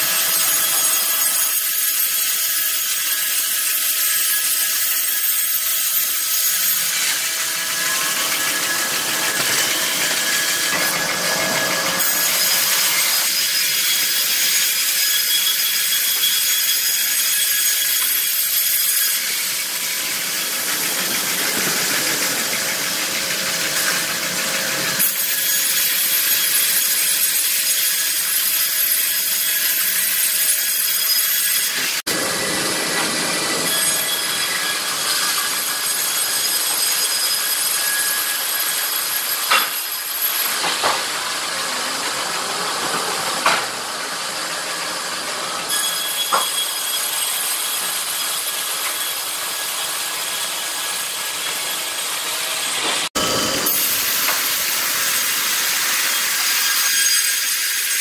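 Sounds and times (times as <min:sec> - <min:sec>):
band saw cutting timber: 0:00.0 - 0:58.0
high whine of band blades: 0:03.6 - 0:26.4, 0:31.6 - 0:57.8.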